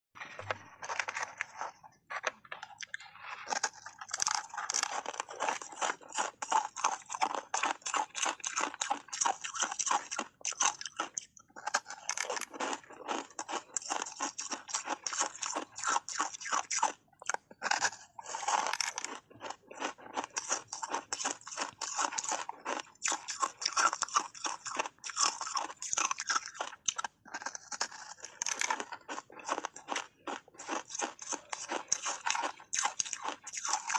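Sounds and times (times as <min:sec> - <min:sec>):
crunching ice with teeth: 0:00.2 - 0:33.9.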